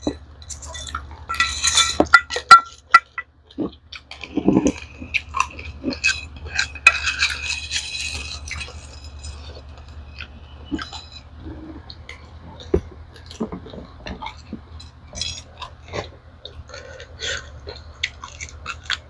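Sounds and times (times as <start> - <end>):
chewing crunchy rice: 0.0 - 19.0.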